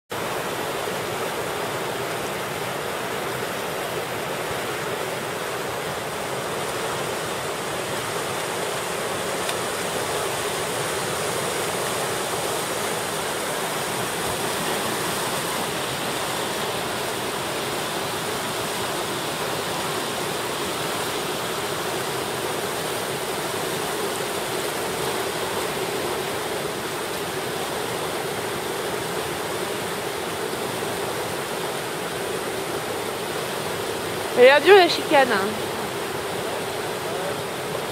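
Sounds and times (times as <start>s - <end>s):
whitewater rapids rushing: 0.1s - 37.9s.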